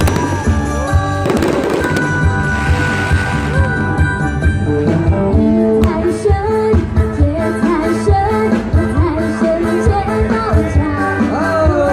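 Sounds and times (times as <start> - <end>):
pop song with singing: 0.0 - 11.9.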